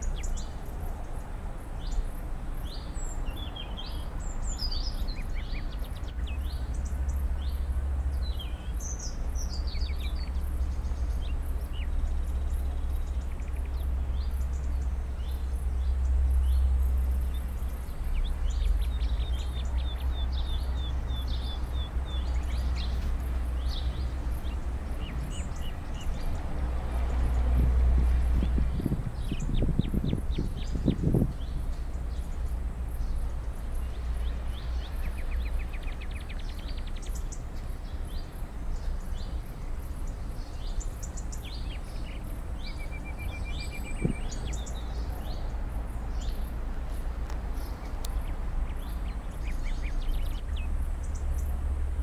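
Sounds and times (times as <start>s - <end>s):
small birds chirping: 0.0s - 52.0s
steady low rumble: 0.0s - 52.0s.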